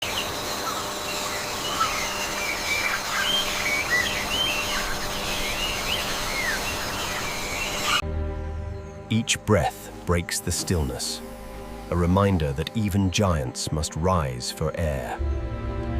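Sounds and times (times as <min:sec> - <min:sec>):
birds chirping and whistling: 0:00.0 - 0:14.0
outdoor ambient hiss: 0:00.0 - 0:15.2.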